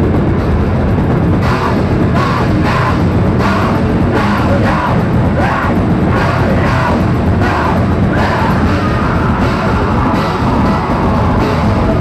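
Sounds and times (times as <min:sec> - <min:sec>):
bass guitar: 0:00.0 - 0:12.0
distorted guitars: 0:00.0 - 0:12.0
pounding drum kit: 0:00.0 - 0:12.0
growled vocals: 0:01.7 - 0:12.0.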